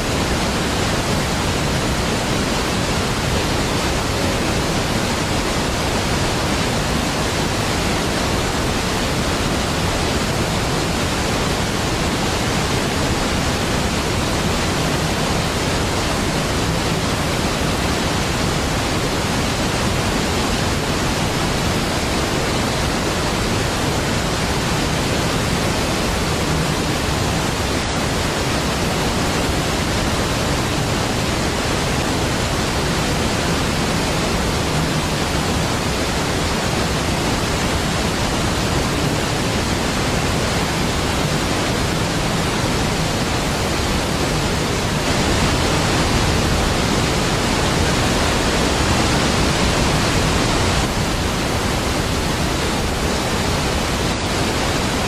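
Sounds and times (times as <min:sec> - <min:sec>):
large waterfall rushing: 0:00.0 - 0:55.0.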